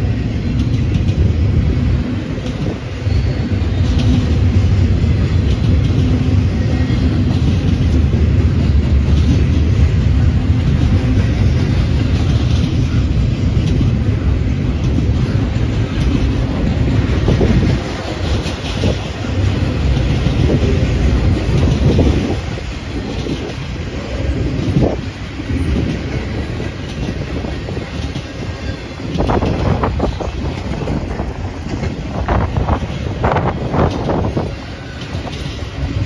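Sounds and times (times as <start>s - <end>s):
freight train rumbling past: 0.0s - 36.0s
train clacks and knocks: 0.0s - 36.0s.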